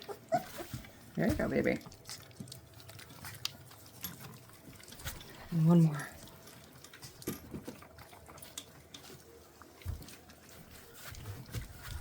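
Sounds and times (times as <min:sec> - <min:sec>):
puppies lapping and chewing: 0:00.0 - 0:12.0.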